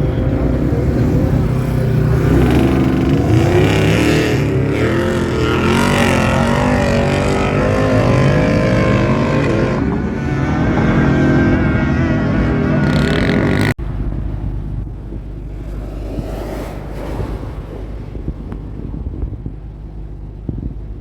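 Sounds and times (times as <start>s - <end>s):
off-road vehicle engines revving: 0.0s - 21.0s.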